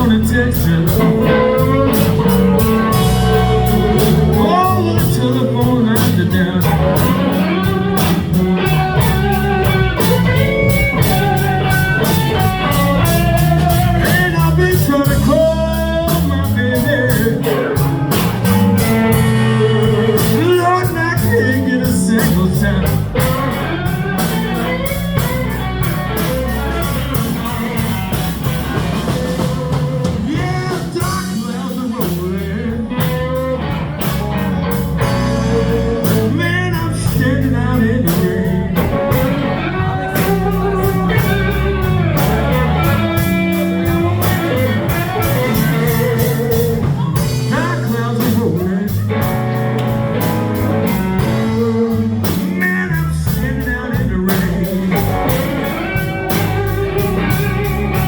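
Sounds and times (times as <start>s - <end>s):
bass: 0.0s - 58.0s
electric guitar lead bending notes: 0.0s - 58.0s
steady drum beat: 0.0s - 58.0s.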